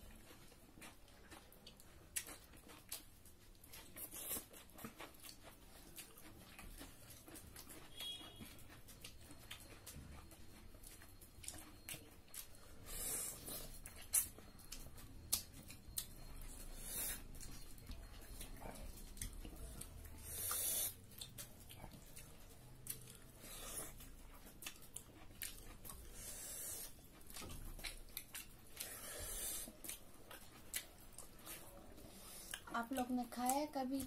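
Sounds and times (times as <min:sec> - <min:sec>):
chewing and lip-smacking: 0:00.0 - 0:34.0.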